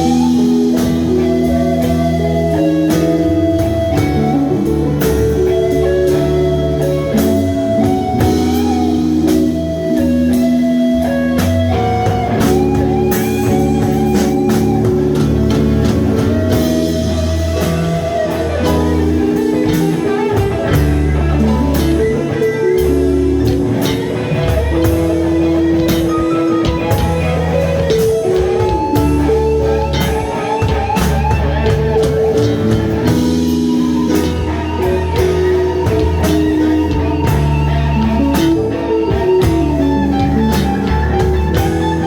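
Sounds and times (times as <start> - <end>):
bass guitar: 0.0 - 42.0
drum kit: 0.0 - 42.0
electric guitar lines: 0.0 - 42.0.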